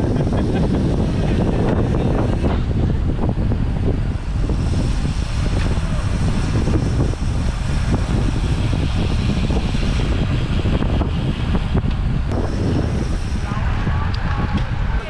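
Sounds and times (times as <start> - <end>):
road noise: 0.0 - 15.0
wind rush on microphone: 0.0 - 15.0.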